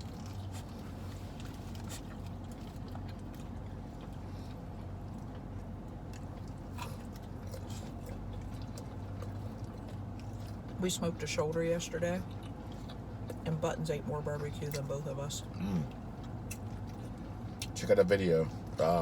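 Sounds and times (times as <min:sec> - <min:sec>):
pet chewing food: 0:00.0 - 0:19.0
steady low hum: 0:00.0 - 0:19.0.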